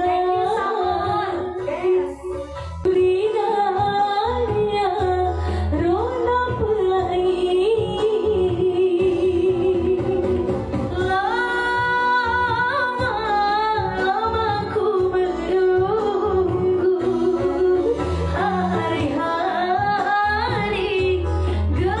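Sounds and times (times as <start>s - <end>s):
instrumental backing with bass: 0.0s - 22.0s
woman singing: 0.0s - 22.0s.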